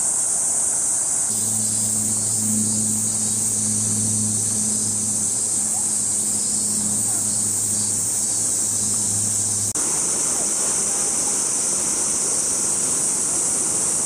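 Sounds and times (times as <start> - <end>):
cicada chorus drone: 0.0 - 14.0
low steady hum: 0.9 - 14.0.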